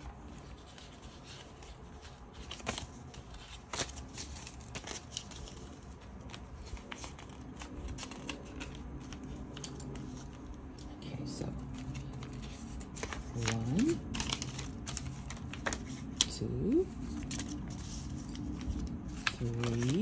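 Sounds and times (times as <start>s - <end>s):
paper bills rustling: 0.0s - 20.0s.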